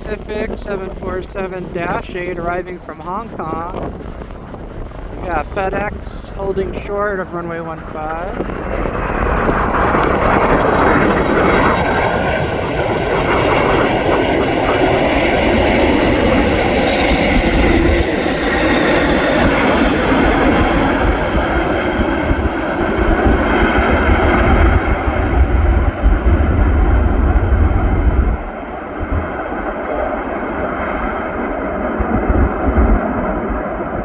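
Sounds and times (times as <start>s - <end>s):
jet engine noise: 0.0s - 34.0s
low rumble: 0.0s - 34.0s.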